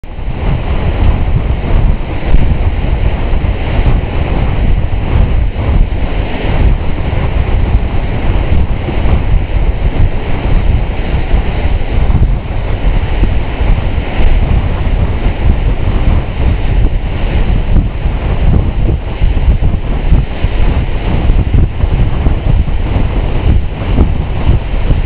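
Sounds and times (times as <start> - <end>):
heavy low rumble: 0.0 - 25.0
foaming water rushing past hull: 0.1 - 25.0.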